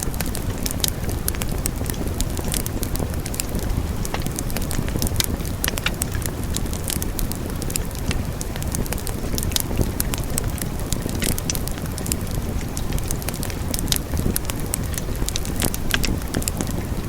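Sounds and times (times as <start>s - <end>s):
logs crackling and popping: 0.0s - 17.0s
wood fire rumbling: 0.0s - 17.0s.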